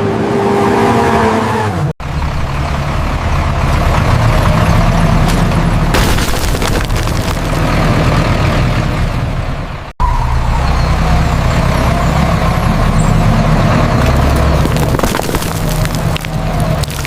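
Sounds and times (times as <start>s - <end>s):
heavy truck engine running: 2.0s - 17.0s.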